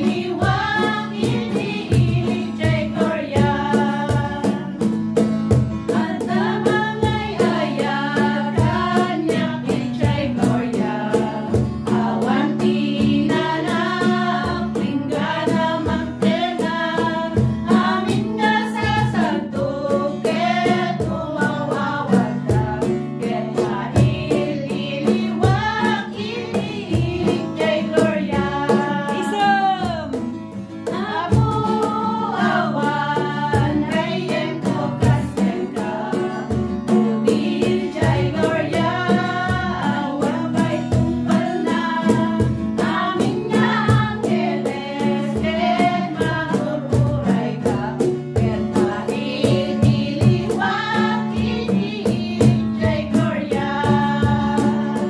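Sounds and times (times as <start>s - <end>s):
strummed acoustic guitar: 0.0s - 55.0s
women singing together: 0.0s - 55.0s.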